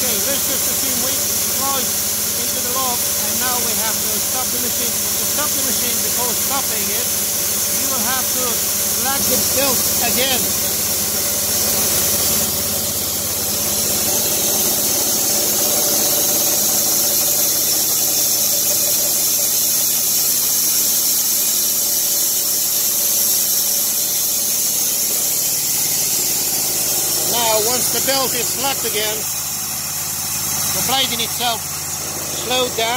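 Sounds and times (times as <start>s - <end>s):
bandsaw blade winding down: 0.0s - 32.9s
small petrol engine running: 0.0s - 32.9s.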